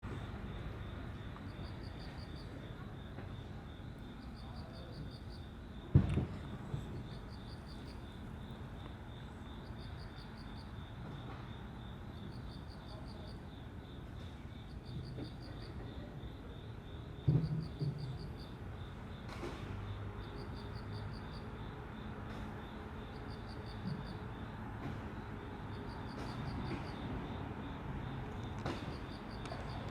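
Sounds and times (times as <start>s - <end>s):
insects chirping in trills: 0.1s - 29.9s.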